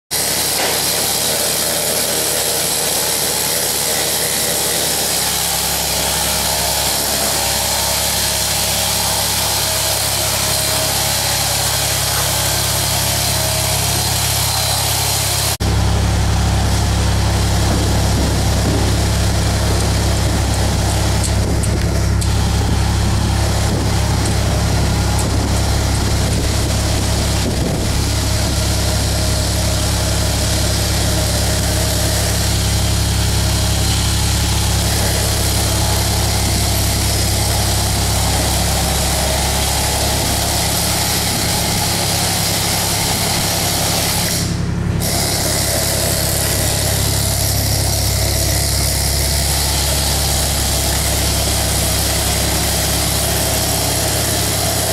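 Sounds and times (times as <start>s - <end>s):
machinery low hum: 0.2s - 54.9s.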